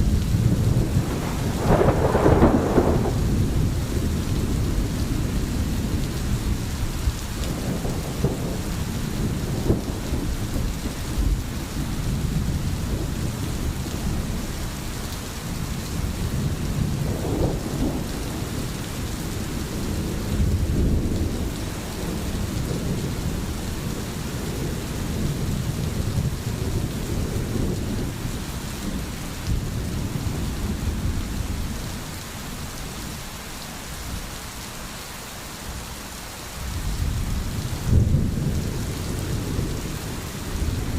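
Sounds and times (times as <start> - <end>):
low rolling thunder: 0.0 - 33.2, 36.6 - 40.9
steady rain falling: 0.0 - 40.9.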